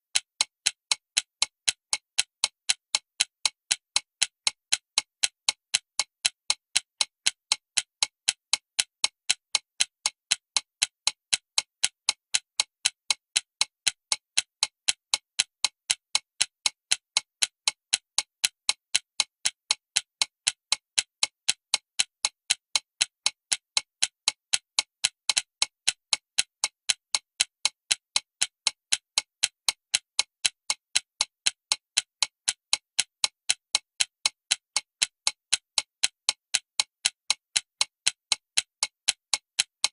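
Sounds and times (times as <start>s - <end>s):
alarm clock ticking: 0.1s - 39.9s.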